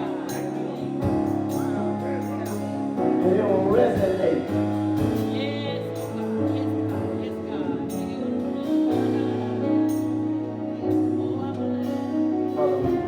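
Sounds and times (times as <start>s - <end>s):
sustained keyboard chords: 0.0s - 13.0s.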